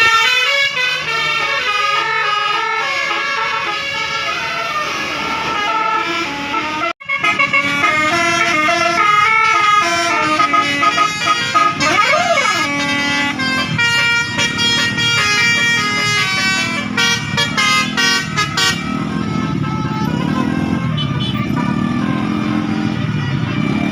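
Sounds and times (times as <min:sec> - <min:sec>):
bus air horn melody: 0:00.0 - 0:23.9.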